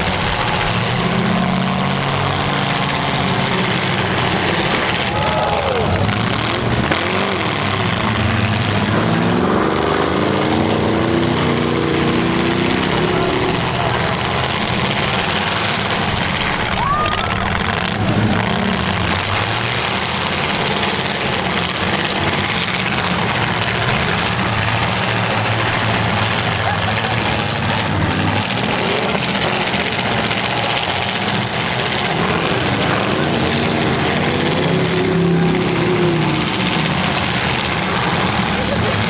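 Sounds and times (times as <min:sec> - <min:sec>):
engine revving: 0:00.0 - 0:39.0
many car engines running: 0:00.0 - 0:39.0.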